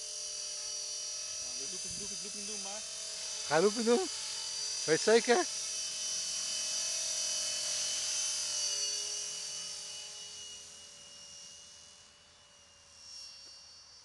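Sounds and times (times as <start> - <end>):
model helicopter whine: 0.0 - 14.0.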